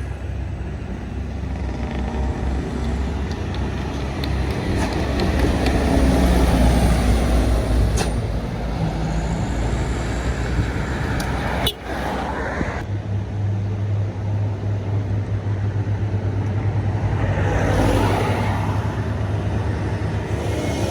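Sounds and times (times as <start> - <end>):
heavy vehicle engine passing: 0.0 - 20.9.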